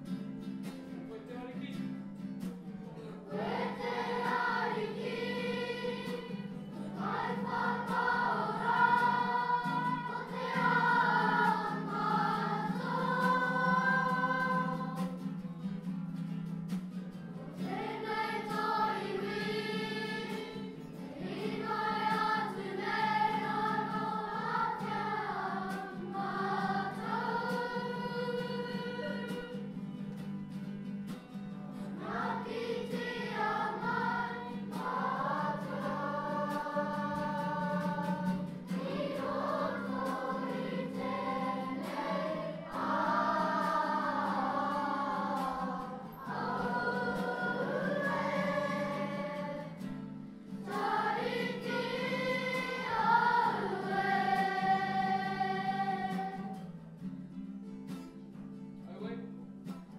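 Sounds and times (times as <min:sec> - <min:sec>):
acoustic guitar: 0:00.0 - 0:59.9
children's choir singing: 0:03.2 - 0:15.7, 0:17.4 - 0:29.8, 0:31.8 - 0:49.9, 0:50.5 - 0:56.6.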